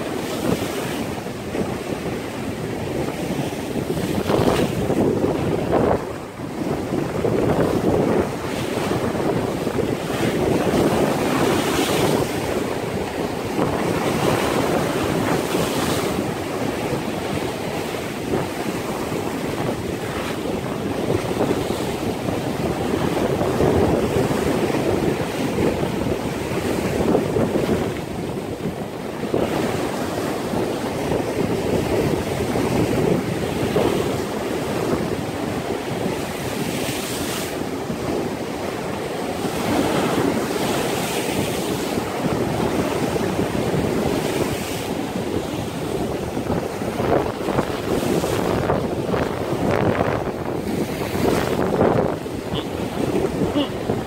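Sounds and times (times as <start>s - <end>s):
surf breaking over rocks: 0.0s - 54.0s
wind buffeting microphone: 0.0s - 54.0s.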